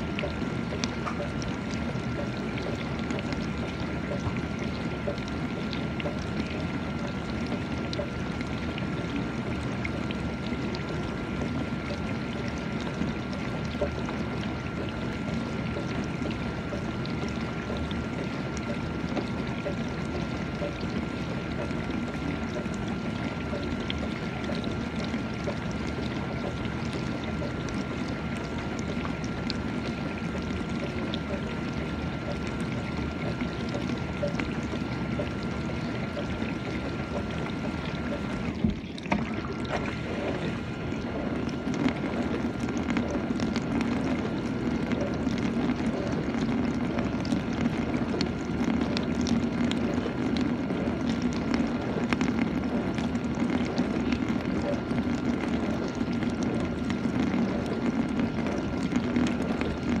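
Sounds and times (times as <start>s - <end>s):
faint steady whine: 0.0s - 60.0s.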